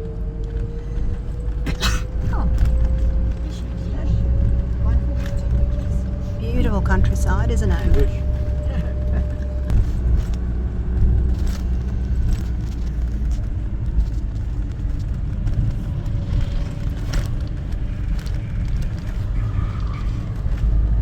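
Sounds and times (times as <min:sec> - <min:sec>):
bus engine and road rumble: 0:00.0 - 0:21.0
light rattles and clicks: 0:00.0 - 0:21.0.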